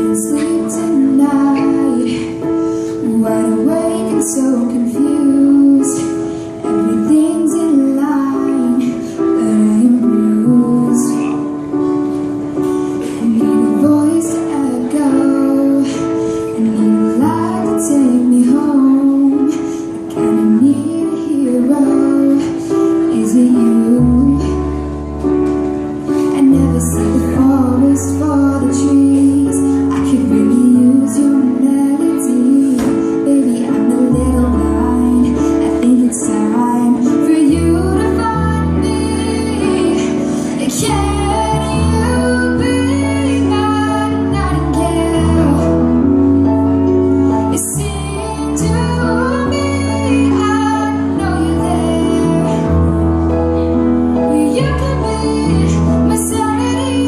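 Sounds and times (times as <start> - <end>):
woman singing: 0.0 - 11.8, 13.0 - 25.0, 26.1 - 57.0.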